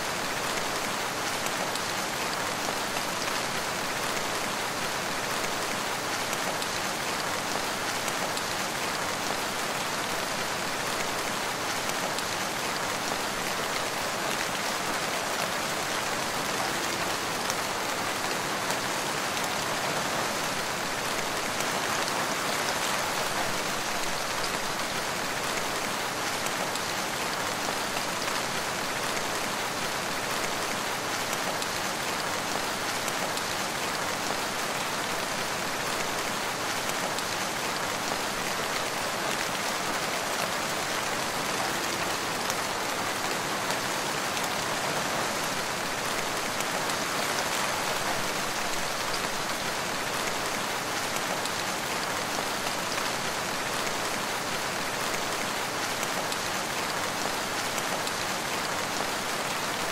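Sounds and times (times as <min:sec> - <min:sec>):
rain falling on forest: 0:00.0 - 0:59.9.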